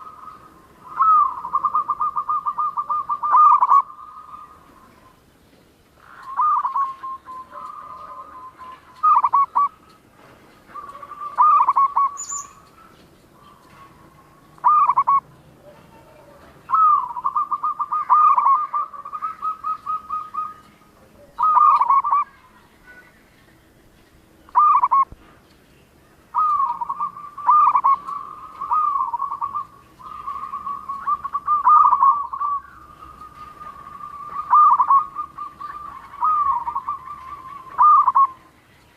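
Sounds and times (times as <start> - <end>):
dove singing pulsing coos: 0.0 - 5.3, 5.9 - 38.9.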